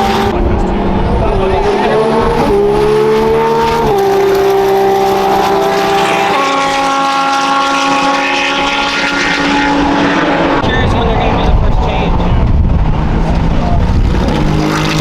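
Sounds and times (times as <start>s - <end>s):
race car engine changing gear: 0.0s - 15.0s.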